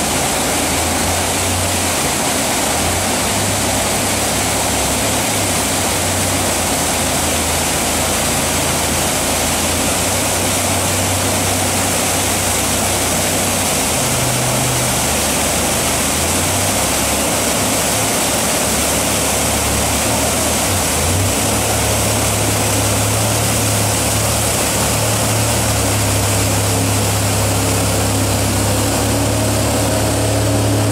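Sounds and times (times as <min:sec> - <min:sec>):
boat engine droning: 0:00.0 - 0:30.9
whitewater rapids rushing: 0:00.0 - 0:30.9.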